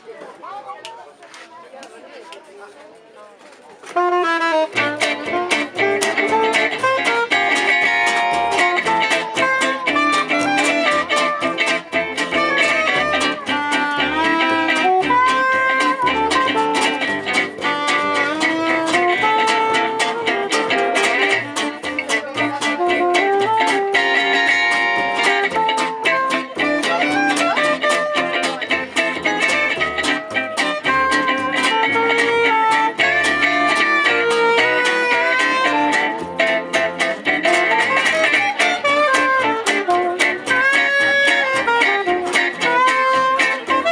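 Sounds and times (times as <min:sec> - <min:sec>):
jazz band playing guitar-led: 0:03.9 - 0:43.9.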